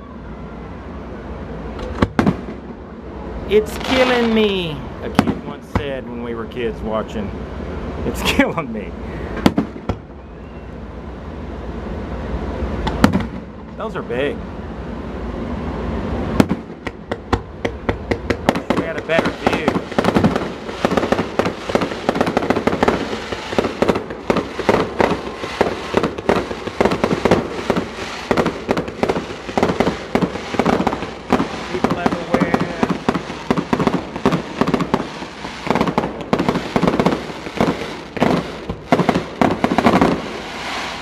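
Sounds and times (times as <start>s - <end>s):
fireworks bangs and crackles: 1.4s - 7.1s, 9.3s - 10.2s, 12.6s - 14.4s, 15.4s - 41.0s.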